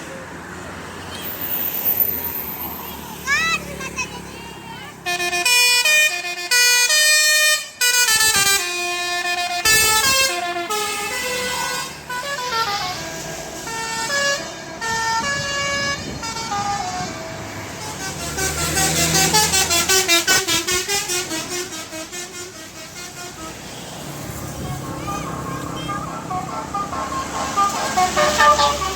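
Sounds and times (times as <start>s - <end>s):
musical bus air horns: 5.0s - 28.9s.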